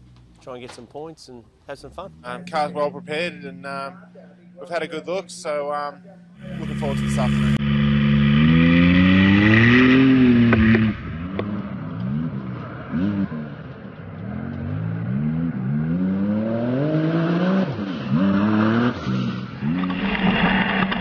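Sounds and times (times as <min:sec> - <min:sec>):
race car engine accelerating: 0:01.8 - 0:21.0.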